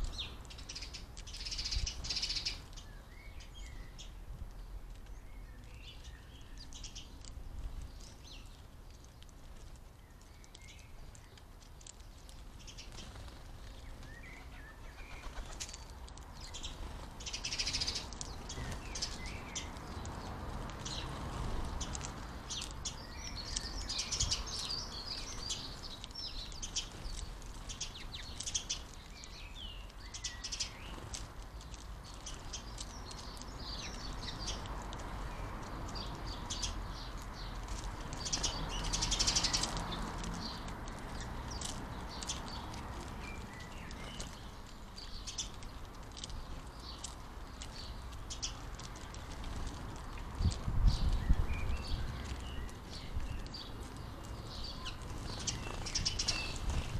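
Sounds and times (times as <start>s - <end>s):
sparrows chirping: 0.0s - 56.9s.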